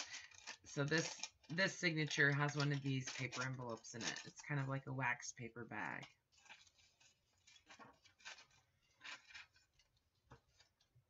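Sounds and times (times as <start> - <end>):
paper pages rustling: 0.0 - 4.7, 5.8 - 11.0.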